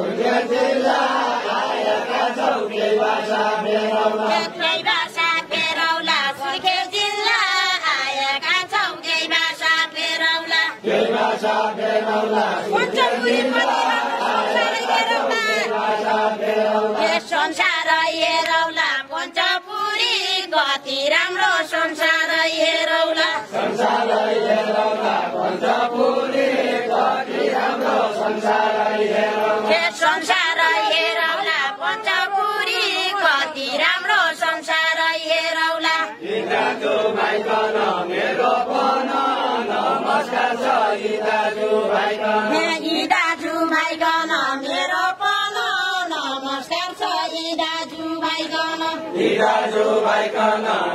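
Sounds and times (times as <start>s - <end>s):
group singing a chant-like melody: 0.0s - 50.9s.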